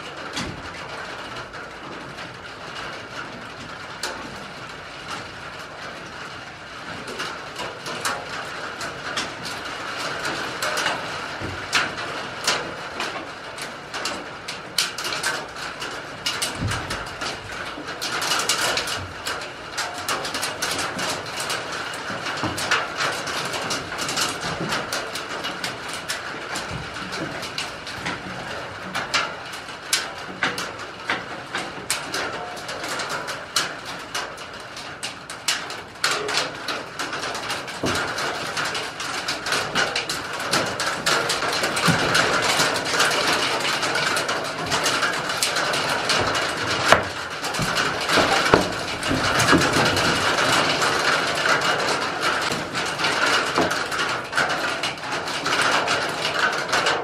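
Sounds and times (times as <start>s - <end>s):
heavy rain on wooden roof: 0.0s - 57.0s
sharp drips and taps: 7.1s - 57.0s.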